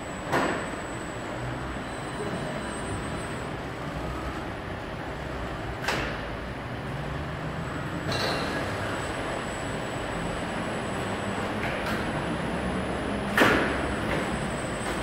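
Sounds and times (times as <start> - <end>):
robot arm and conveyor hum: 0.0 - 15.0.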